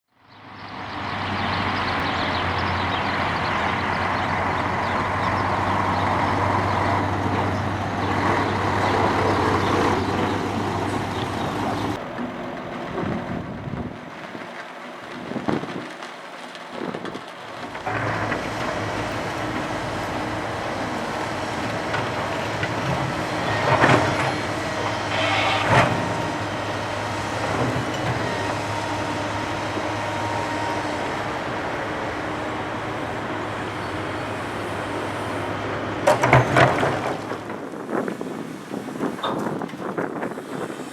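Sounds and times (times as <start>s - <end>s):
construction machinery engine drone: 0.1s - 40.9s.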